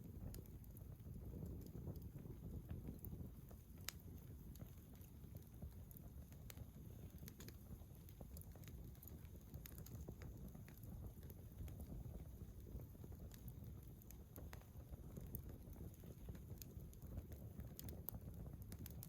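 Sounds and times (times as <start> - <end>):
fire crackling and popping: 0.0 - 19.0
fire low rumble: 0.0 - 19.0.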